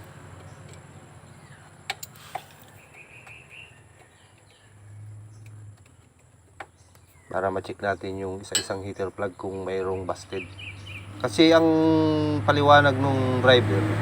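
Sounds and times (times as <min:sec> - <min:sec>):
bird chirping: 0:00.0 - 0:11.6.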